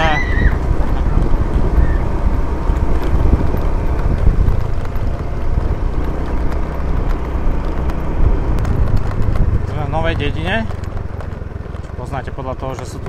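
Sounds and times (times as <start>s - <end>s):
wind rushing on microphone: 0.0s - 11.0s
road noise: 0.0s - 13.0s
vehicle engine running: 0.0s - 13.0s.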